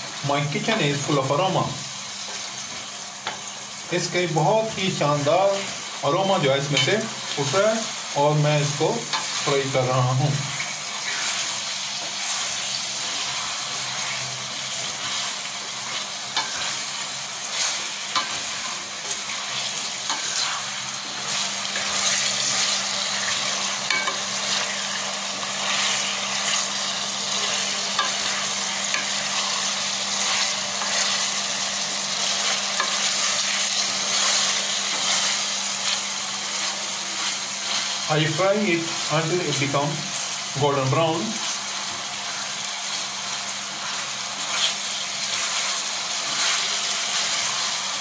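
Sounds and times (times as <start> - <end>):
chicken sizzling in hot oil: 0.0 - 48.0.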